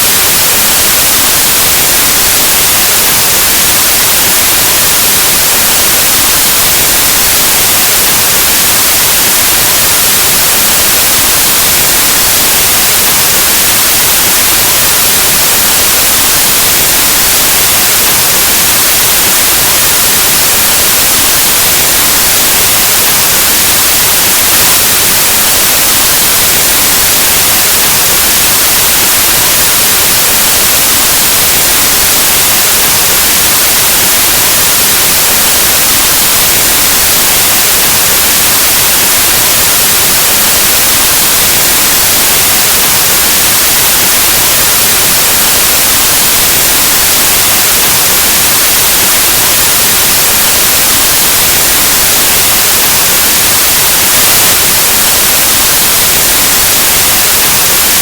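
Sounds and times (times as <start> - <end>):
white noise static hiss: 0.0 - 58.0.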